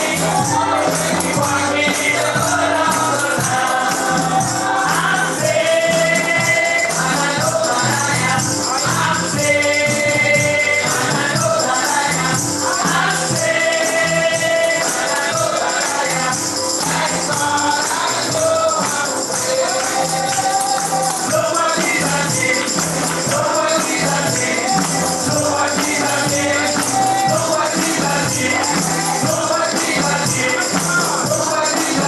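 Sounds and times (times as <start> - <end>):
tambourine shaking: 0.0 - 32.0
voices singing together: 0.0 - 32.0.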